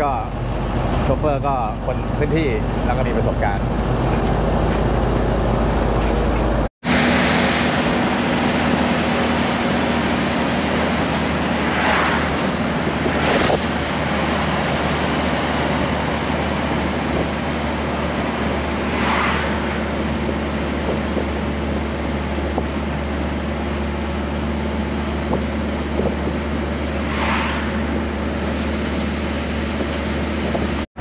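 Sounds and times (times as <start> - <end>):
passing traffic: 0.0 - 30.8
truck engine: 0.0 - 30.9
road noise: 0.0 - 31.0
wind noise: 2.1 - 23.4, 24.9 - 30.8.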